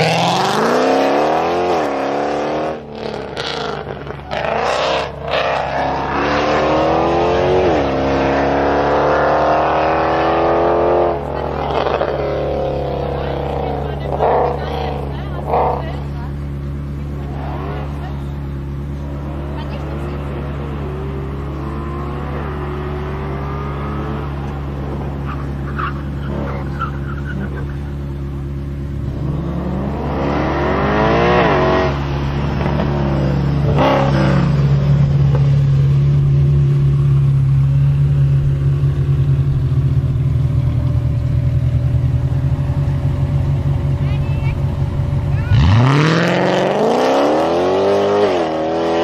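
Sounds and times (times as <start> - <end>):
car engine revving and idling: 0.0 - 49.0.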